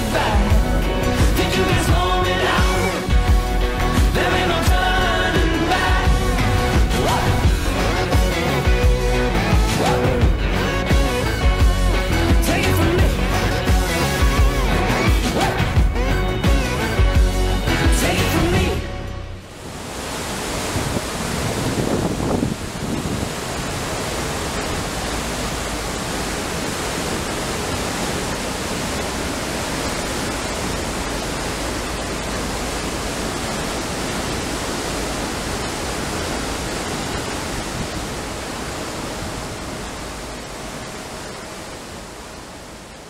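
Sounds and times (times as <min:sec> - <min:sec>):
churning seawater rushing and hissing: 0:00.0 - 0:16.0, 0:17.8 - 0:43.0.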